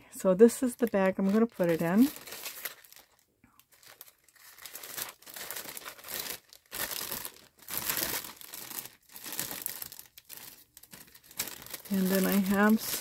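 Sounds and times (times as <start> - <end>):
cellophane bag crinkling: 0.6 - 13.0.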